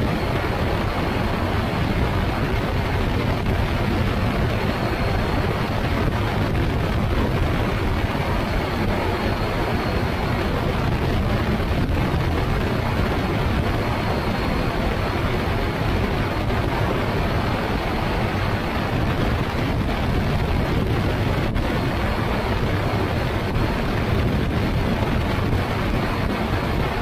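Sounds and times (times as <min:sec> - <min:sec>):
aircraft engine and propeller: 0:00.0 - 0:27.0
wind rushing over microphone: 0:00.0 - 0:27.0.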